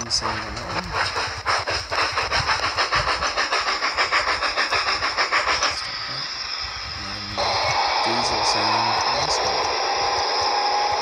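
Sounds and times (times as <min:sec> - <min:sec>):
steady hiss: 0:00.0 - 0:11.0
steam locomotive exhaust chuffs: 0:00.0 - 0:11.0.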